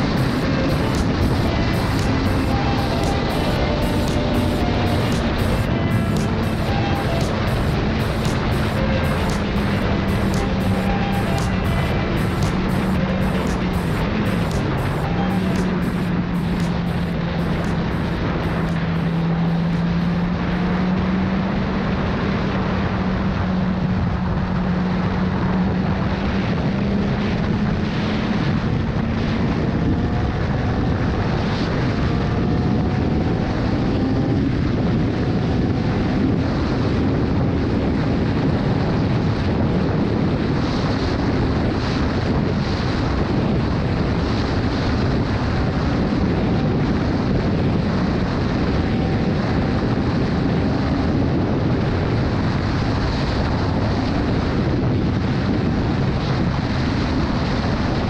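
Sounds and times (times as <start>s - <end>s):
motorcycle engine at speed: 0.0s - 58.0s
wind noise on microphone: 0.0s - 58.0s.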